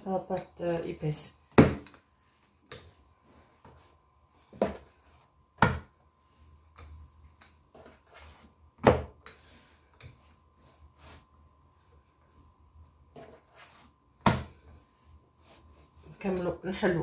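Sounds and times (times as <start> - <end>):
rolling pin rolling dough: 0.0 - 17.0.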